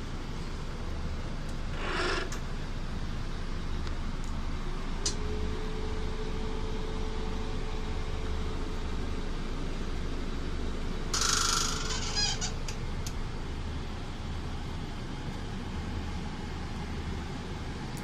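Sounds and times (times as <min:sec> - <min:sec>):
low hum inside coach: 0:00.0 - 0:18.0.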